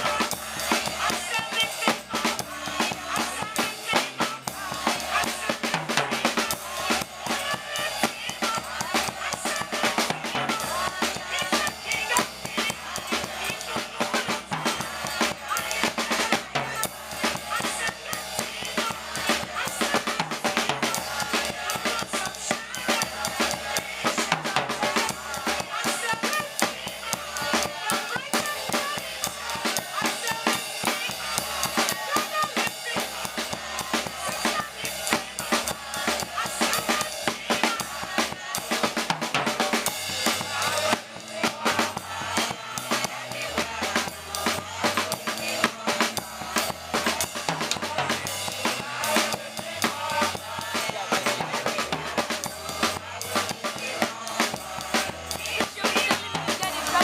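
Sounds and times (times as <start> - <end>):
drum kit beat: 0.0 - 57.0
gospel band music: 0.0 - 57.0.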